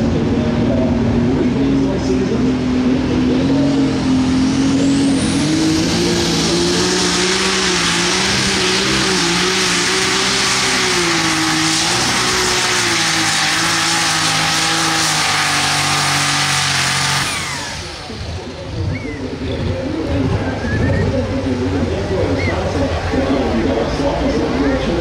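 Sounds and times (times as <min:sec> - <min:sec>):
diesel engine running flat out: 0:00.0 - 0:25.0
high turbo whine: 0:00.0 - 0:25.0.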